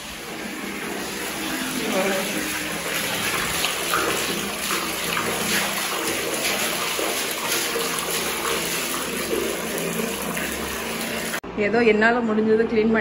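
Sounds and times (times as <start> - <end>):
mop swishing in water: 0.0 - 11.4
tap water pouring into bucket: 0.0 - 11.4.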